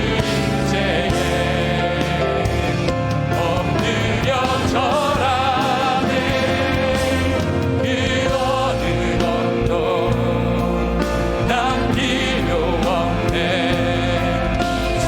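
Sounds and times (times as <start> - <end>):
bass guitar: 0.0 - 15.0
drums: 0.0 - 15.0
piano: 0.0 - 15.0
synthesizer: 0.0 - 15.0
voices singing: 0.0 - 15.0.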